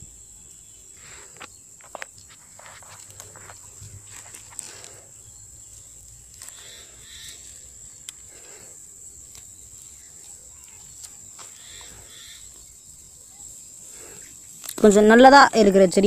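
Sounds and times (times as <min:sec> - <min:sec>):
high-pitched insect trill: 0:00.0 - 0:16.0
weed stems rustling and snapping: 0:01.0 - 0:15.0.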